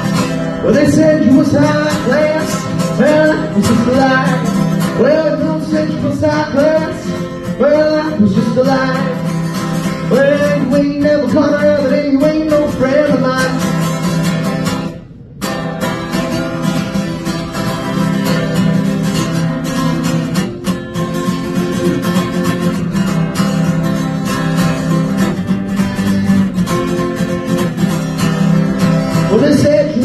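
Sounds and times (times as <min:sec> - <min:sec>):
acoustic guitar solo: 0:00.0 - 0:30.0.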